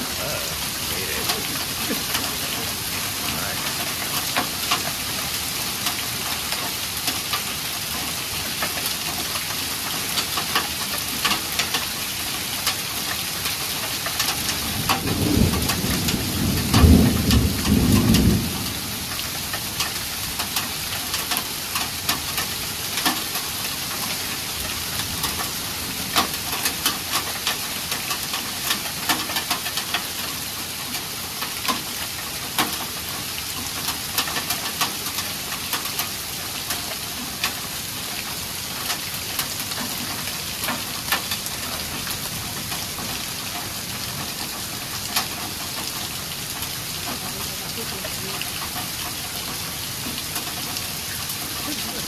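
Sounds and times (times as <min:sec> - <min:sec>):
heavy rain with hail: 0:00.0 - 0:52.0.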